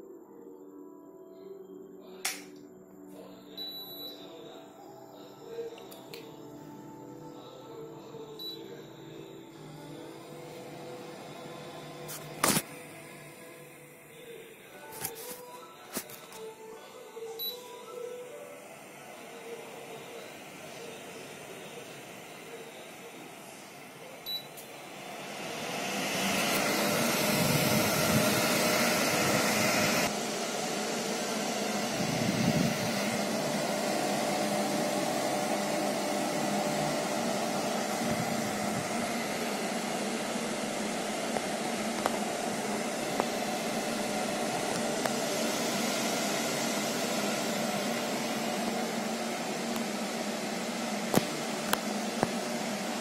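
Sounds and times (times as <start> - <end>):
air purifier fan whir: 3.2 - 53.0.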